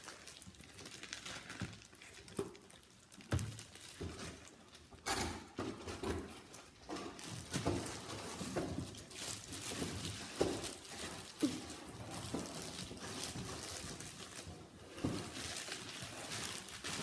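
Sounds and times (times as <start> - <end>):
rustling plastic wrap: 0.0 - 5.0, 5.6 - 17.0.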